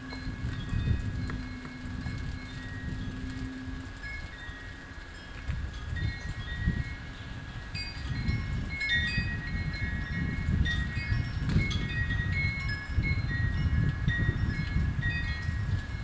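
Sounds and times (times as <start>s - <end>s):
wind chimes ringing: 0.0s - 16.0s
wind rumble on microphone: 0.0s - 16.0s.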